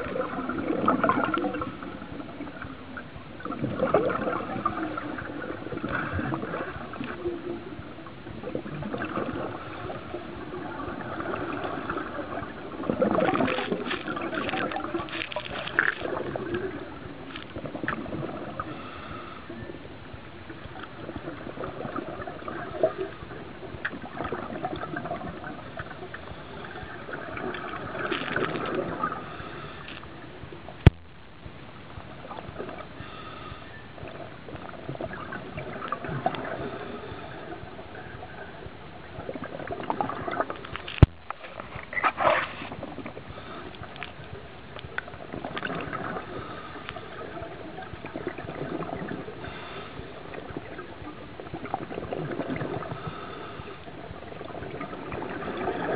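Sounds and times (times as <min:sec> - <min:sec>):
underwater breathing bubbles: 0:00.0 - 0:02.7, 0:03.4 - 0:19.8, 0:20.7 - 0:30.2, 0:32.2 - 0:55.9.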